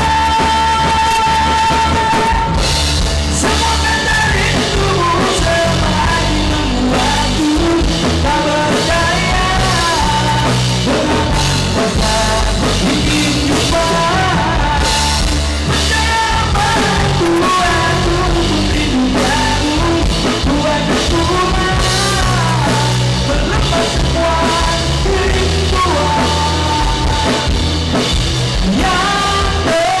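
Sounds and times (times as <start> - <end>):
rock music with singer: 0.0 - 30.0.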